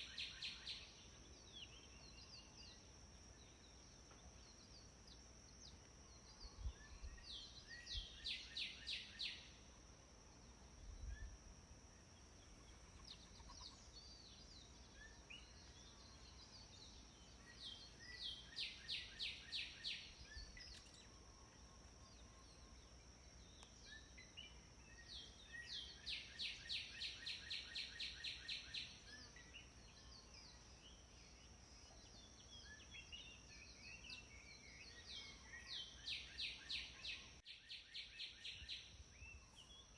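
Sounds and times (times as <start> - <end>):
faint low background noise: 0.0 - 39.9.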